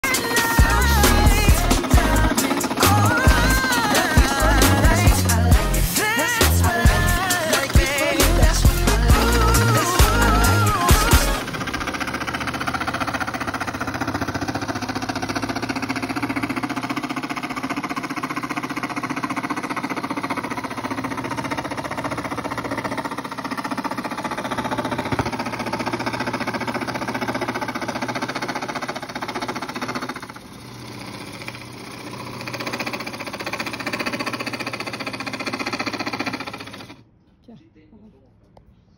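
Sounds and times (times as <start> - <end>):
electric jigsaw sawing: 0.0 - 37.0.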